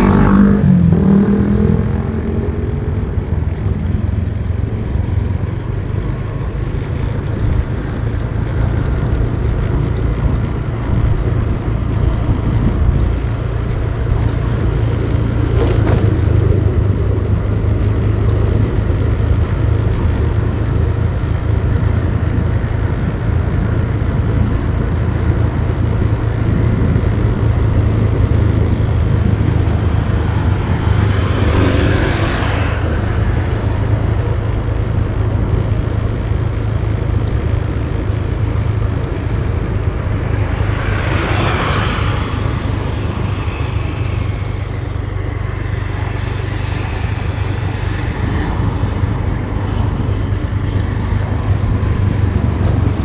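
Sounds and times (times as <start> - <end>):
motorbike engine hum: 0.0 - 53.0
vehicles whooshing past: 0.0 - 53.0
wind and tyre rushing: 0.0 - 53.0.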